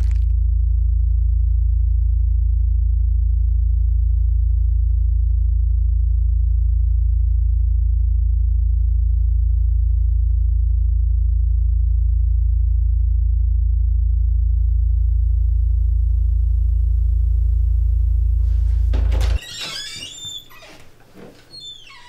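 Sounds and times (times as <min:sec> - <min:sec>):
low synthesizer drone: 0:00.1 - 0:19.7.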